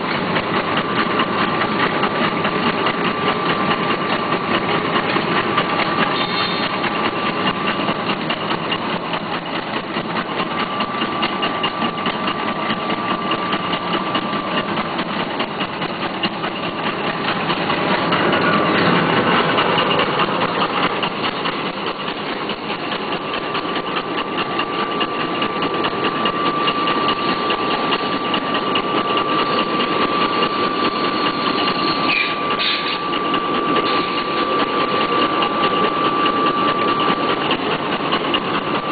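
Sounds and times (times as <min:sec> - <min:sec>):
high machine whine: 0:00.0 - 0:38.9
machine mechanical clatter: 0:00.0 - 0:38.9.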